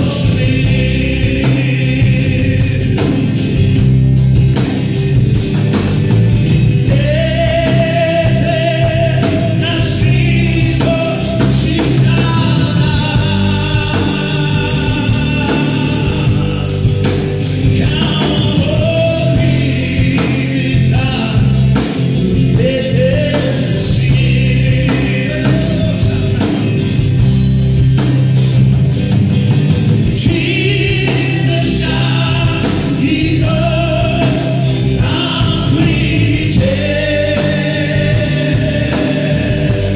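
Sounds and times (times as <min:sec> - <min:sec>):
backing singers: 0:00.0 - 0:03.8, 0:06.2 - 0:27.2, 0:30.1 - 0:39.9
man singing lead: 0:00.0 - 0:04.4, 0:06.0 - 0:27.4, 0:30.0 - 0:39.9
drums: 0:00.0 - 0:39.9
electric guitars: 0:00.0 - 0:39.9.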